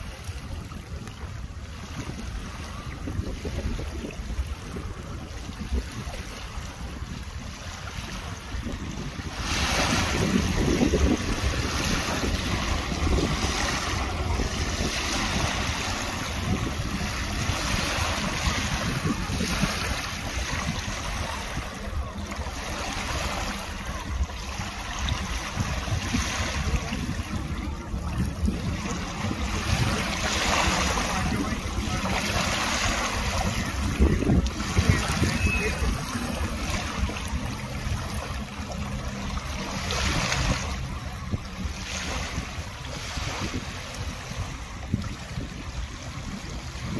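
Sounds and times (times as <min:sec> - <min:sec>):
small waves lapping on shore: 0:00.0 - 0:46.9
wind buffeting microphone: 0:00.0 - 0:46.9.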